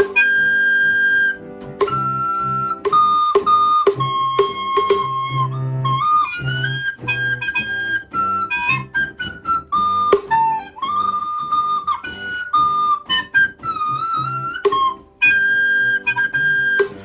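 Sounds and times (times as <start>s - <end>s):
low accompaniment: 0.0s - 17.0s
recorder melody: 0.0s - 17.0s.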